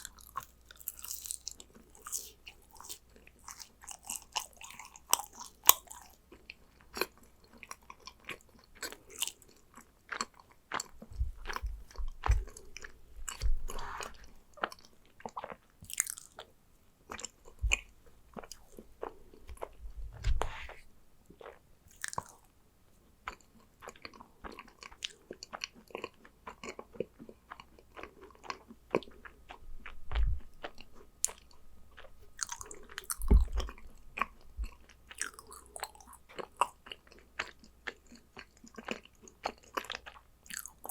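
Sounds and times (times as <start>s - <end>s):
chewing and biting cookies: 0.0s - 40.9s.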